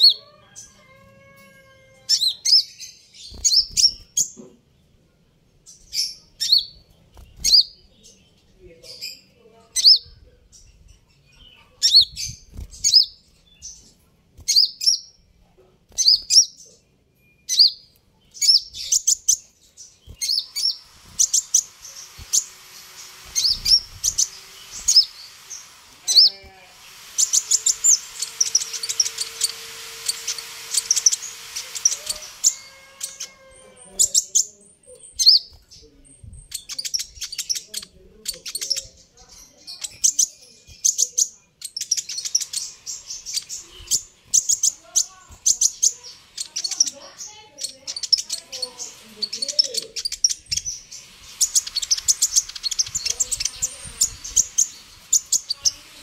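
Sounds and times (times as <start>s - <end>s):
sunbird chirping and twittering: 0.0s - 56.0s.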